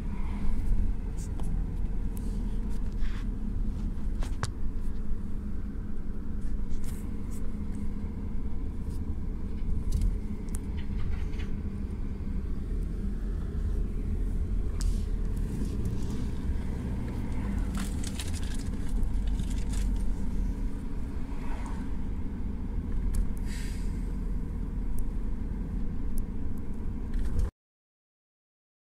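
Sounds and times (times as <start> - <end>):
car cabin road and engine rumble: 0.0 - 27.5.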